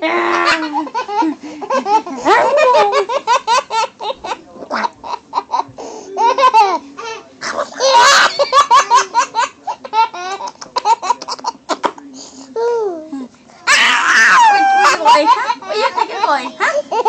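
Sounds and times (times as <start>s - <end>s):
baby laughing: 0.3s - 11.6s, 14.4s - 17.0s.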